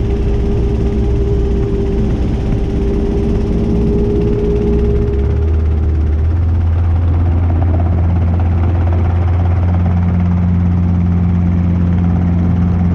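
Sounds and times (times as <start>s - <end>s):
helicopter engine and rotor drone: 0.0s - 12.9s
higher hum: 0.0s - 12.9s.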